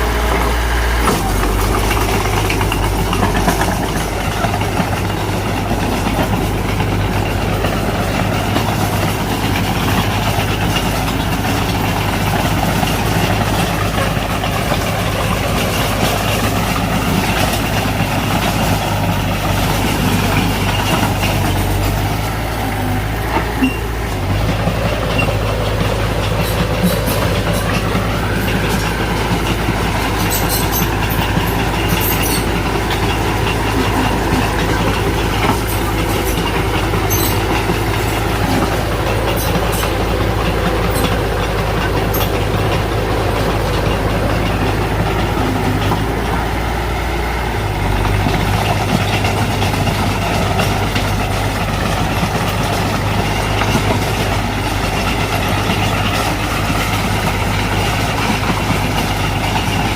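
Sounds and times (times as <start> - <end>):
bulldozer diesel engine running: 0.0 - 59.9
steel tracks clanking and squeaking: 0.0 - 59.9.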